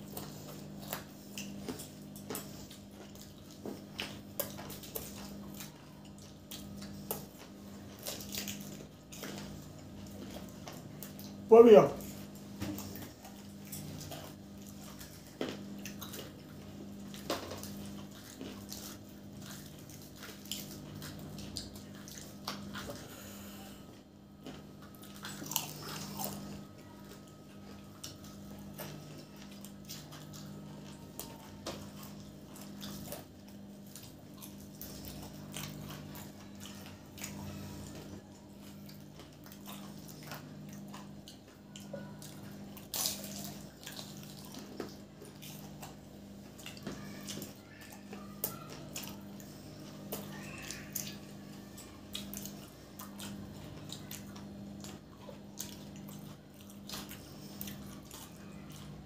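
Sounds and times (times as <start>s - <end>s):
biting and chewing crunchy food: 0.0s - 59.0s
low steady hum: 0.0s - 59.0s.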